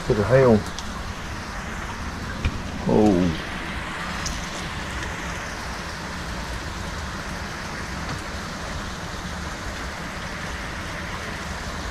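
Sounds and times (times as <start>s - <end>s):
steady rain: 0.0s - 11.9s.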